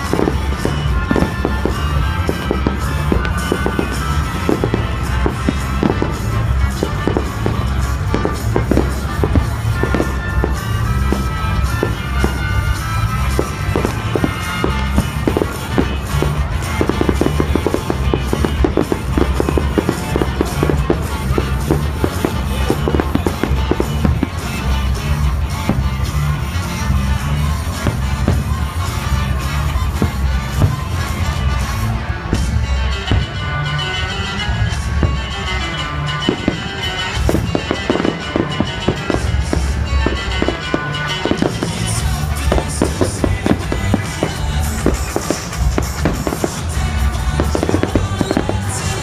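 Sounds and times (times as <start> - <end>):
fireworks cracking and popping: 0.0 - 49.0
music with bass line: 0.0 - 49.0.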